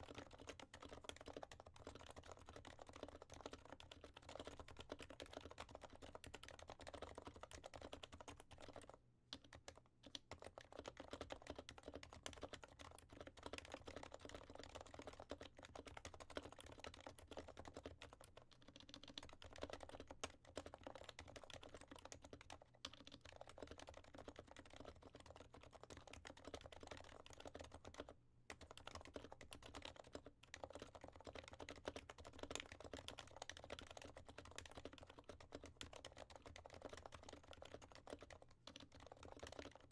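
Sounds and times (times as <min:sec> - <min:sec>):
soft muffled keyboard typing: 0:00.0 - 0:39.9.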